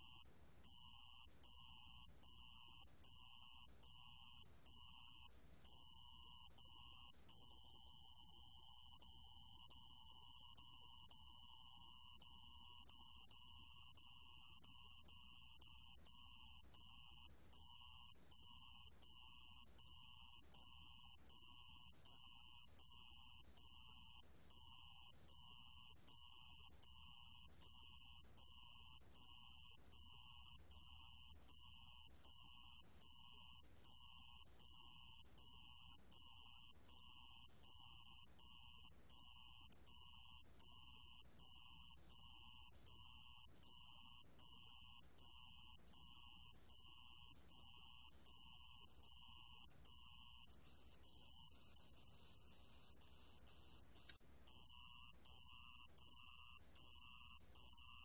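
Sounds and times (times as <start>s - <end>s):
cricket chirping trill: 0.0s - 58.0s.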